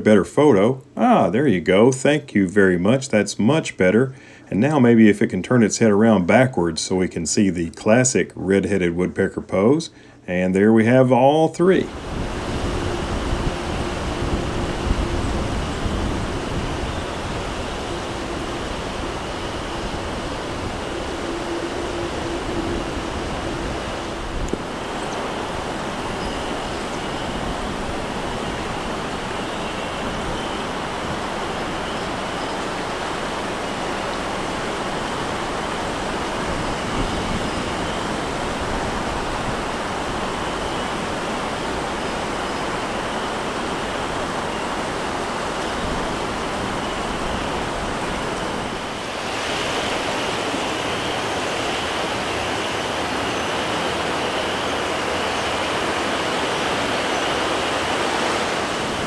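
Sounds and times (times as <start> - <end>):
steady rushing noise: 11.6 - 59.0.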